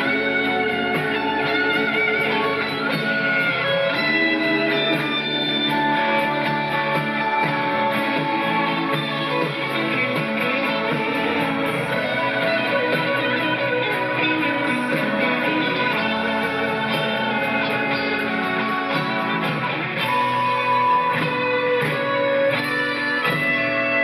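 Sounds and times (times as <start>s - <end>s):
electric guitar: 0.0s - 24.0s
rock band playing: 0.0s - 24.0s.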